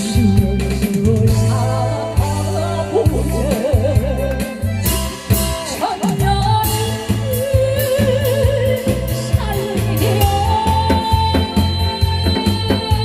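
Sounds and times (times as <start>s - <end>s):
backing track with drums and bass: 0.0s - 13.0s
woman singing with vibrato: 0.0s - 13.0s.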